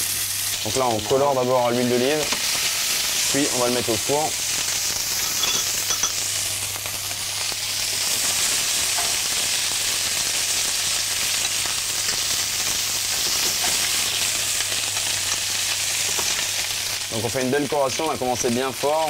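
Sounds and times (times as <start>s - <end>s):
fish frying in oil sizzling: 0.0s - 19.0s.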